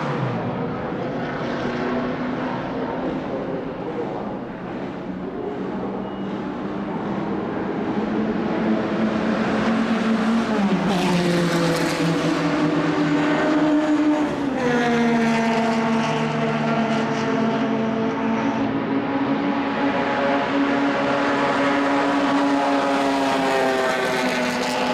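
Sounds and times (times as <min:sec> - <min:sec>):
racing car engine running hard: 0:00.0 - 0:24.9.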